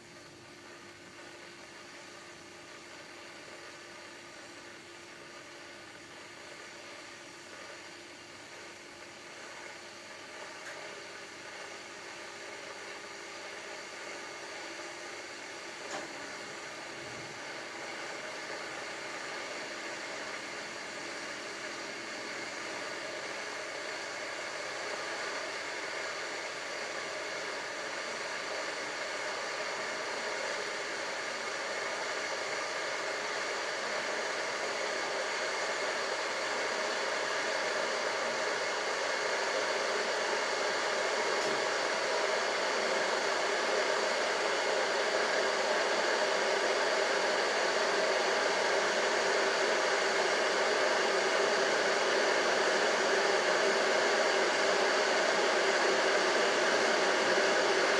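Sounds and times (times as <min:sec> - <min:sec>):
electric kettle heating water: 0:00.0 - 0:57.9.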